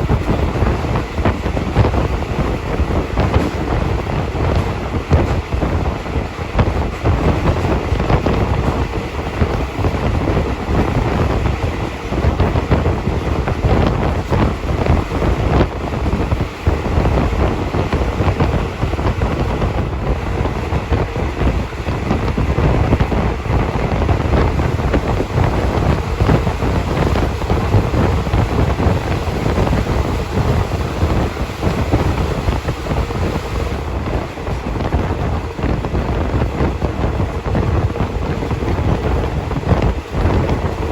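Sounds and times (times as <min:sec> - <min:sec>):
train rumble: 0:00.0 - 0:40.9
wind buffeting microphone: 0:00.0 - 0:40.9.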